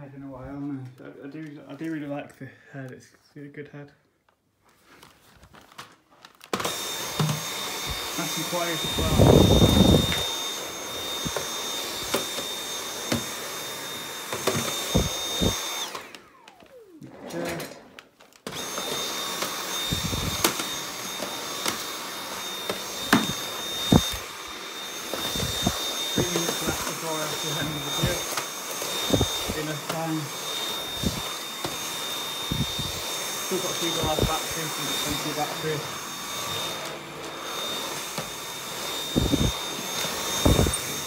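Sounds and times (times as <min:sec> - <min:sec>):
vacuum cleaner whine: 0:06.4 - 0:41.0.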